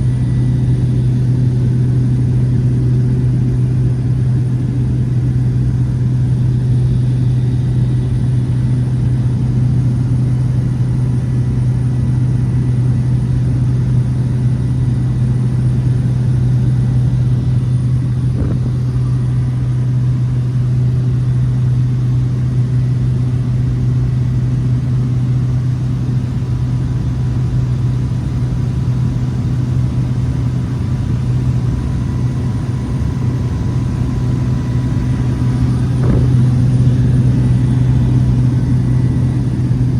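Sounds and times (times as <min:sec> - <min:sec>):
turboprop engine droning: 0:00.0 - 0:39.9.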